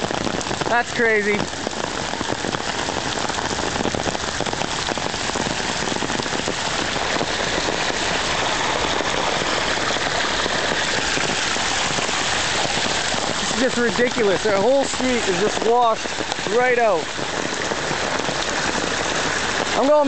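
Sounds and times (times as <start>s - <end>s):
heavy rain: 0.0s - 20.0s
raindrops pattering on umbrella: 0.0s - 20.0s.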